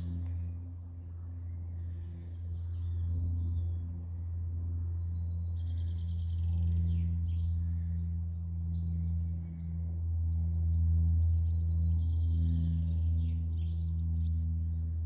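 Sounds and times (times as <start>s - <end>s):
ambient drone music: 0.0s - 15.0s
faint birdsong: 0.0s - 15.0s.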